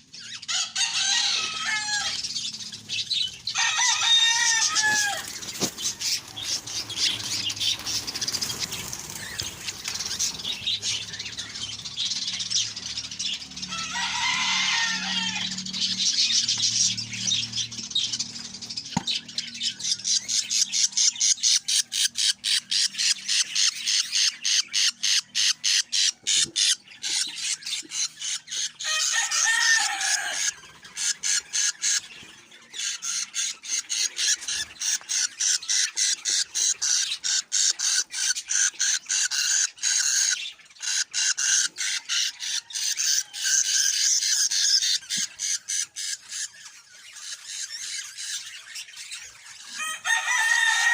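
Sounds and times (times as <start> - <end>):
budgerigar chicks chirping: 0.0 - 50.9.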